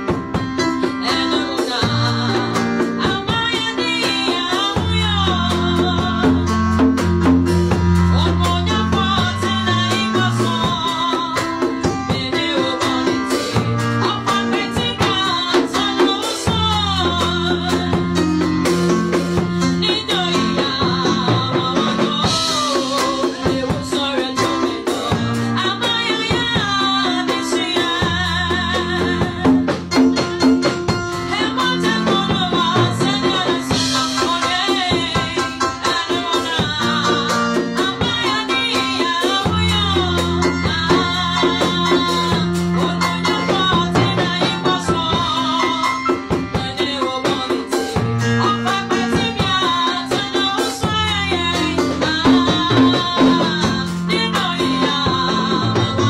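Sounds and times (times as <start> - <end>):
gospel singing with band: 0.0 - 56.0.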